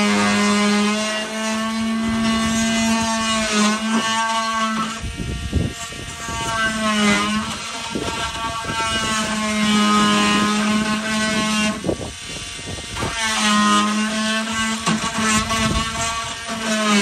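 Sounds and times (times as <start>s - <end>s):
oscillating multi-tool cutting wood: 0.0s - 17.0s.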